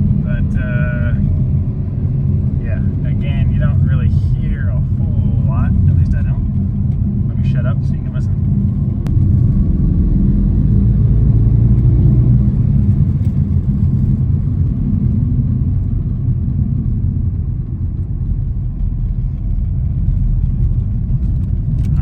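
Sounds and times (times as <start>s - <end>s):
car engine drone in cabin: 0.0s - 22.0s
road rumble: 0.0s - 22.0s.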